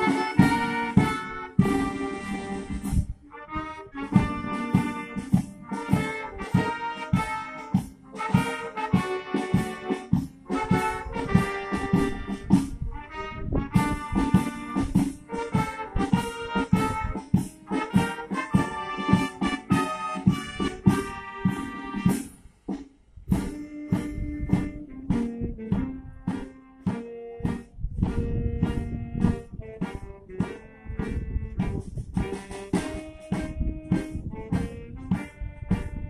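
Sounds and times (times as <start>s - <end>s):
trumpets and trombones playing: 0.0s - 22.4s, 23.3s - 36.0s
steady drum beat: 0.0s - 36.0s.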